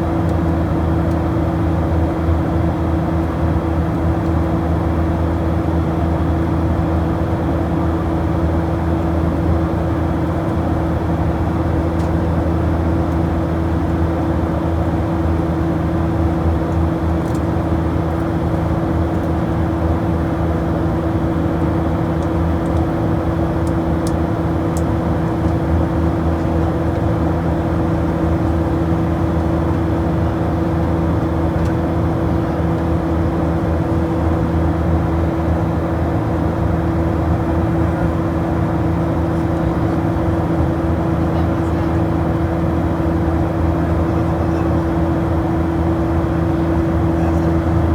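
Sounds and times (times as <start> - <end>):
aircraft cabin engine drone: 0.0 - 47.9.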